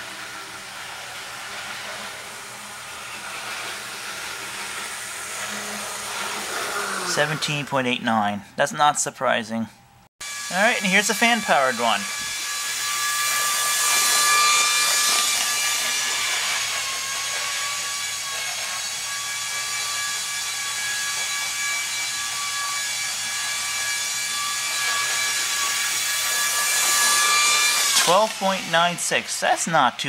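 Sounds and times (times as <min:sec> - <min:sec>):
model locomotive fan whine: 0:00.0 - 0:07.8, 0:10.2 - 0:30.0.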